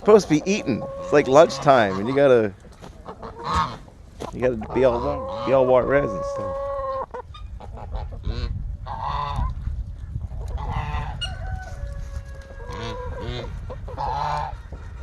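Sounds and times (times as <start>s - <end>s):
geese honking: 0.0s - 9.4s, 10.6s - 11.4s, 12.3s - 15.0s.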